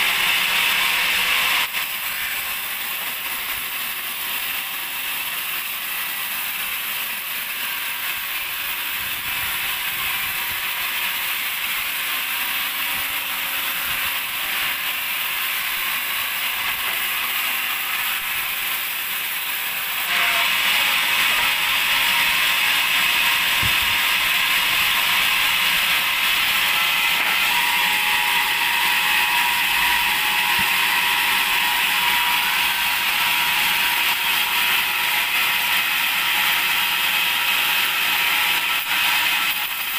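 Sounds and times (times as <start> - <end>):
band sawmill sawing a log: 0.0 - 39.9.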